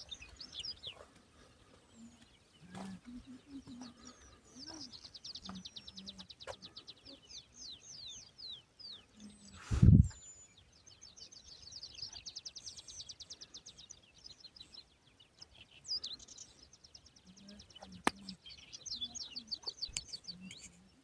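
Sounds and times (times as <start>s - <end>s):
songbirds trilling: 0.0s - 21.0s.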